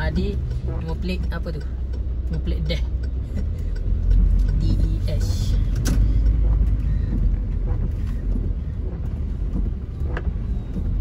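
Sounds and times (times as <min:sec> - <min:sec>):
car cabin rumble on wet road: 0:00.0 - 0:11.0.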